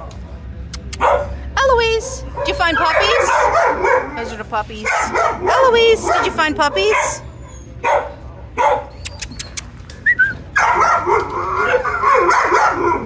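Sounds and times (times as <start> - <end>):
dogs whining and yelping: 2.3 - 13.0.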